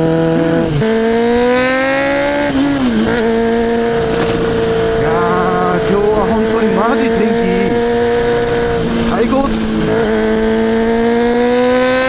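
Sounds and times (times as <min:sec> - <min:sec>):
motorbike engine accelerating: 0:00.0 - 0:12.0.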